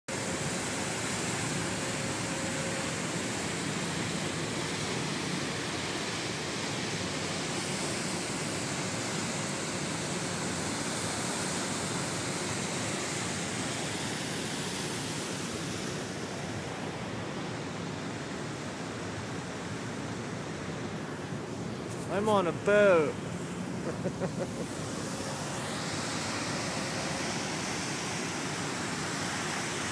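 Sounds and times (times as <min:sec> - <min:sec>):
propeller wake churning: 0:00.1 - 0:29.9.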